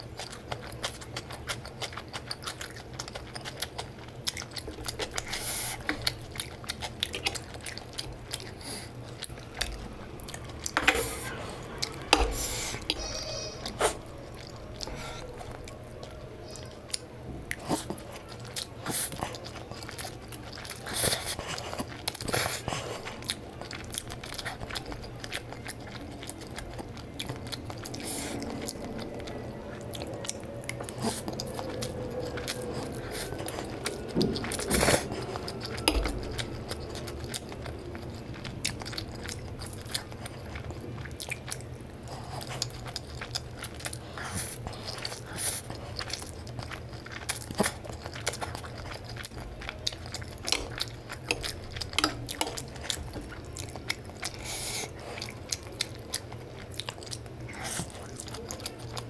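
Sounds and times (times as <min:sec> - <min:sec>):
person chewing noodles: 0:00.0 - 0:59.0.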